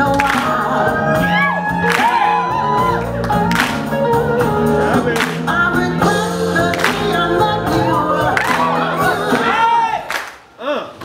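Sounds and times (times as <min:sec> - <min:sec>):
slow blues song with band: 0:00.0 - 0:09.5.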